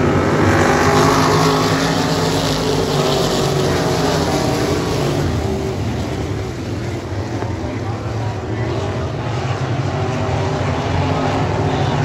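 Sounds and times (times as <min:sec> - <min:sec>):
race cars passing at speed: 0:00.0 - 0:12.0.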